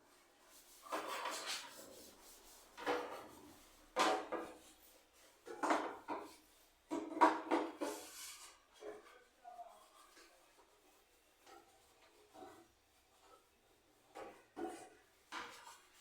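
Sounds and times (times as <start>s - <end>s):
objects scraping and rubbing: 0.5s - 6.2s, 7.8s - 16.0s.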